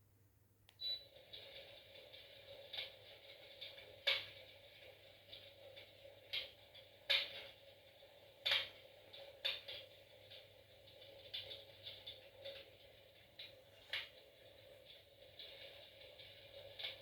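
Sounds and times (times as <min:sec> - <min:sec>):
fire crackling in a fireplace: 0:01.1 - 0:17.0.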